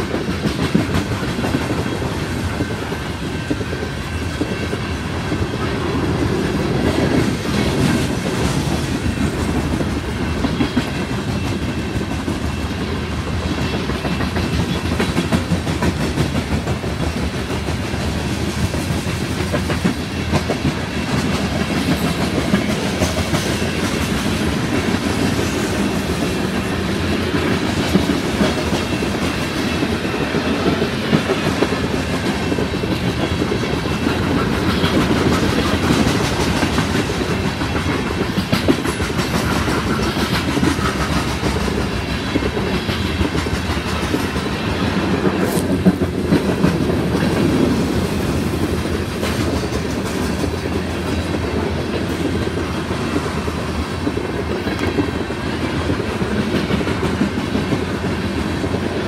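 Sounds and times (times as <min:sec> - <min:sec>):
clickety-clack over rail joints: 0:00.0 - 0:59.0
steel wheels rumbling on rail: 0:00.0 - 0:59.0.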